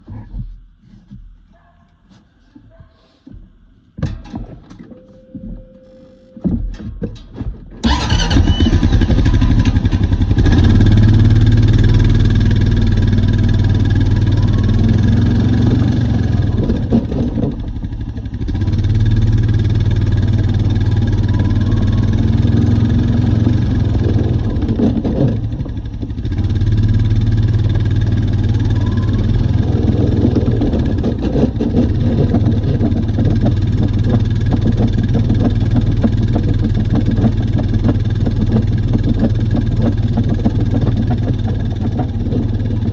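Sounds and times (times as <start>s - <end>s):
atv engine running: 7.8s - 42.9s.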